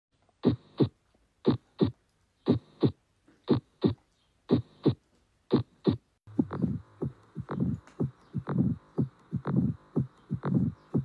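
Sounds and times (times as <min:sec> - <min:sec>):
heartbeat lub-dub: 0:00.4 - 0:11.0.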